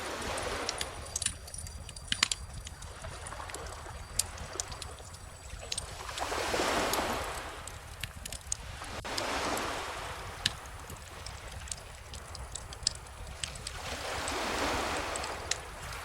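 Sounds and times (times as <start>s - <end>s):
bonfire crackling: 0.0s - 16.0s
calm ocean waves: 0.0s - 16.0s.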